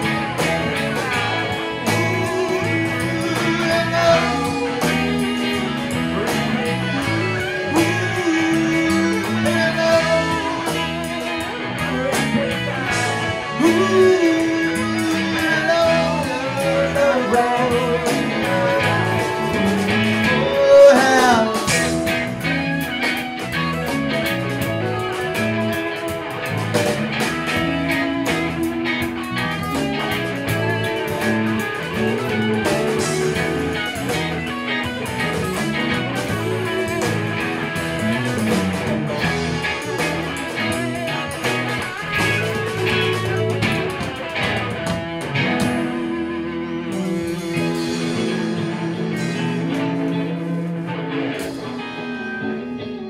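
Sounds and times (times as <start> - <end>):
drums: 0.0 - 53.0
electric guitars: 0.0 - 53.0
guitar note sliding down: 0.0 - 53.0.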